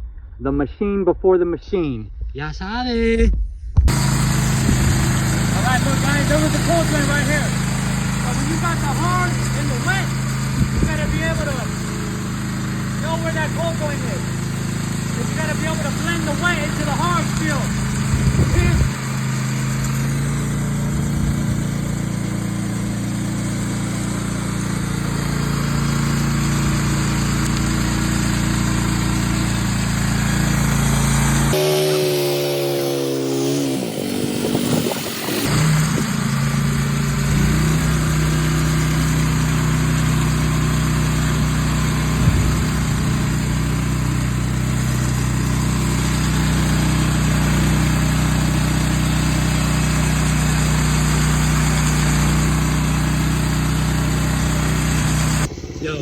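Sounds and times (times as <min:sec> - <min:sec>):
gas engine running: 0:03.9 - 0:56.0.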